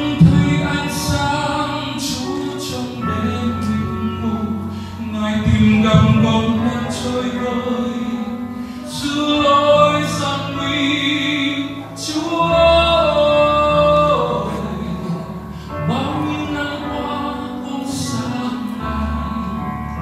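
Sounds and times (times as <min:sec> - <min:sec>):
instrumental backing track: 0:00.0 - 0:20.0
man singing into a microphone: 0:00.0 - 0:20.0.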